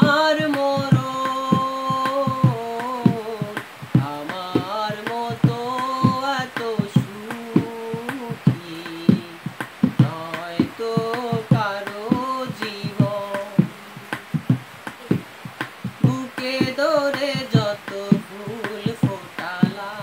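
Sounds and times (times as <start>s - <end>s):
hand-drum beat: 0.0s - 20.0s
person singing melismatically: 0.0s - 20.0s.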